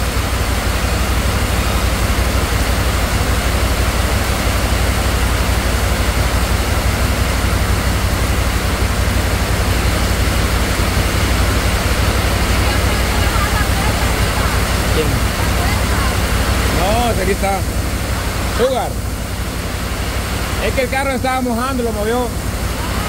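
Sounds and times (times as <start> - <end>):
deep rumble: 0.0 - 20.6
heavy rain pouring: 0.0 - 23.0.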